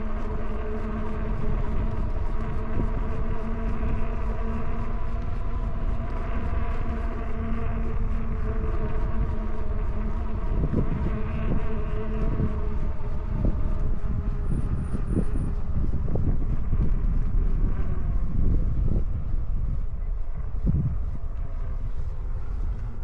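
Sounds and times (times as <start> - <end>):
hub motor whine: 0.0 - 23.0
wind buffeting microphone: 0.0 - 23.0.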